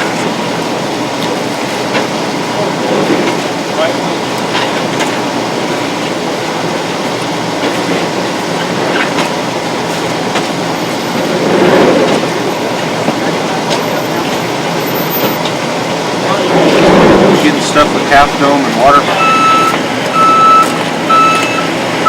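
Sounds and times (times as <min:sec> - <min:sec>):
helicopter rotor and turbine noise: 0:00.0 - 0:22.0.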